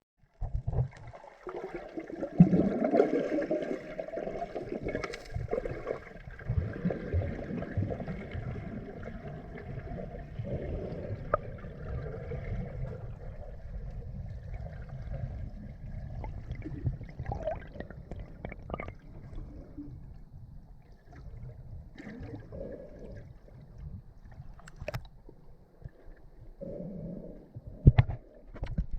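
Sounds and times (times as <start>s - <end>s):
water splashing and gurgling: 0.4s - 20.0s, 20.9s - 26.4s.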